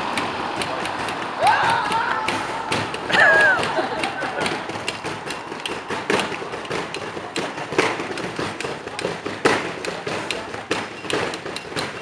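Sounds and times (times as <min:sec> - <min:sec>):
sharp taps and knocks: 0:00.0 - 0:12.0.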